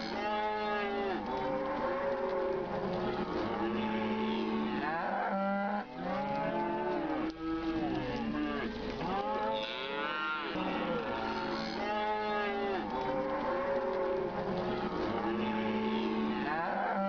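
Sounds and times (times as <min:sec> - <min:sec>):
cows mooing: 0:00.0 - 0:17.0.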